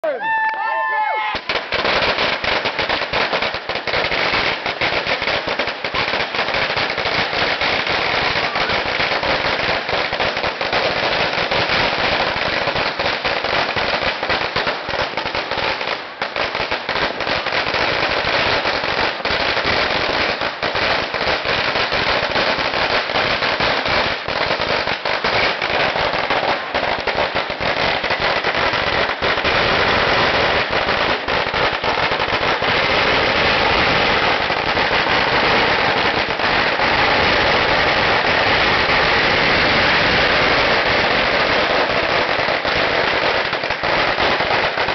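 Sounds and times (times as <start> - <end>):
firecrackers rattling bangs: 1.3 - 44.9.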